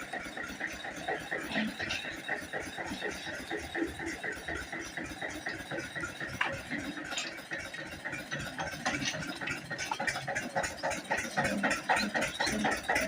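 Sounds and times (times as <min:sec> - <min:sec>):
diesel pump engine running: 0:00.0 - 0:13.0.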